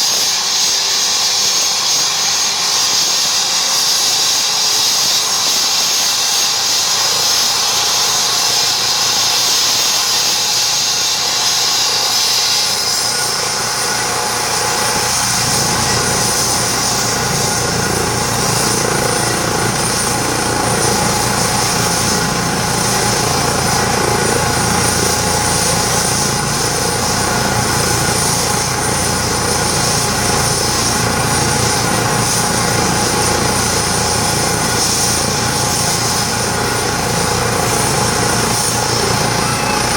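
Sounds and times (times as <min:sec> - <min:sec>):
small aircraft engine and propeller: 0:00.0 - 0:39.9.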